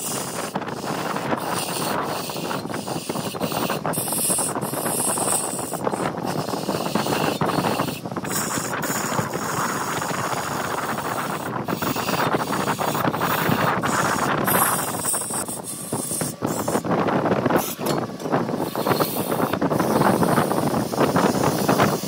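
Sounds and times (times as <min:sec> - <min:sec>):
turning tool cutting wood: 0:00.0 - 0:22.0
wood lathe running: 0:00.0 - 0:22.0.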